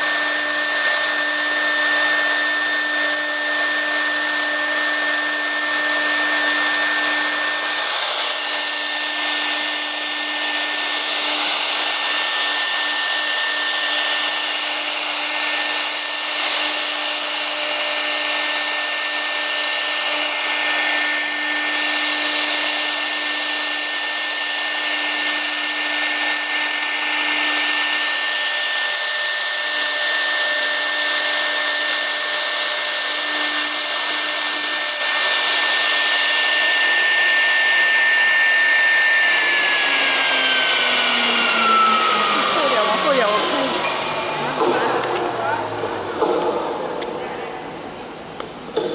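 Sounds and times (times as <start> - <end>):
router bit cutting with hiss: 0.0 - 48.9
router spindle high whine: 0.0 - 48.9.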